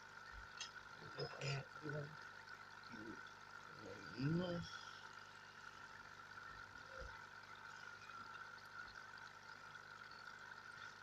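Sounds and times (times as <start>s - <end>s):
faint steady hum: 0.0s - 11.0s
water trickling in fish tank: 0.0s - 11.0s.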